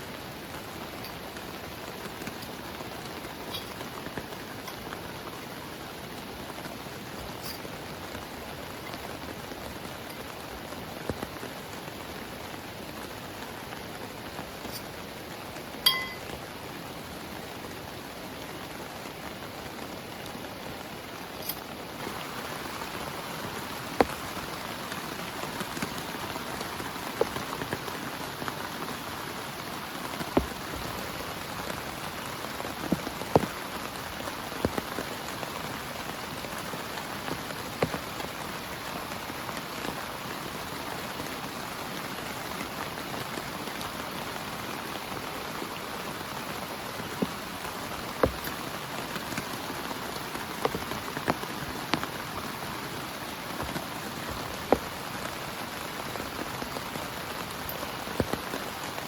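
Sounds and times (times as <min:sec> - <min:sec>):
heavy rain on a tent: 0:00.0 - 0:59.0
raindrops ticking: 0:00.2 - 0:59.0.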